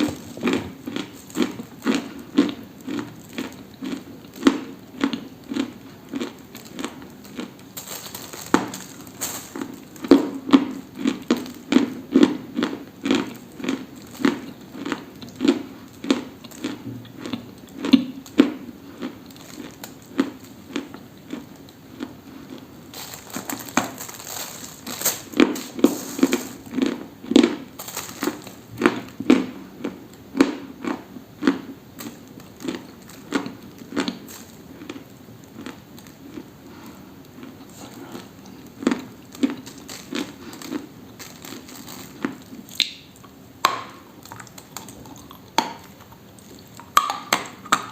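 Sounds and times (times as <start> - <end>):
dry brittle crunching: 0.0 - 29.4, 32.0 - 43.3.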